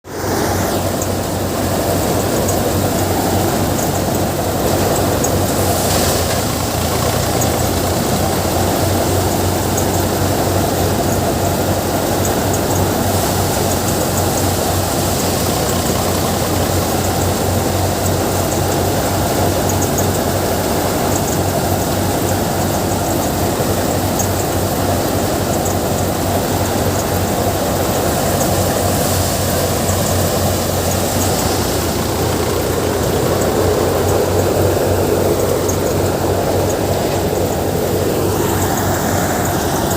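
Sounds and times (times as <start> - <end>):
thresher machine drone: 0.0 - 39.9
tractor diesel engine running: 0.0 - 39.9.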